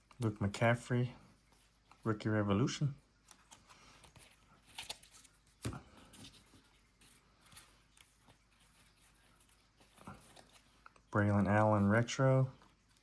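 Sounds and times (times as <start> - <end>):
trading cards rustling and clicking: 0.0 - 13.0.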